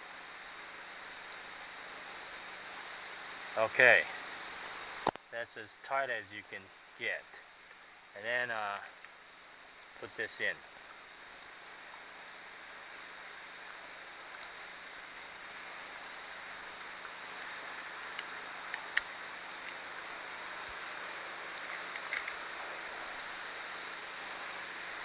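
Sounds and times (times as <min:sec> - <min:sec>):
water hissing from garden hose: 0:00.0 - 0:05.2, 0:06.7 - 0:25.0.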